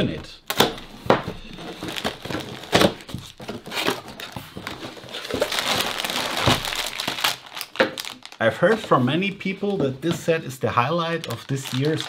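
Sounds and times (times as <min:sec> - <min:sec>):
packaging crinkling and rustling: 0:00.5 - 0:10.0, 0:11.0 - 0:12.0
plastic bags handled: 0:00.5 - 0:12.0.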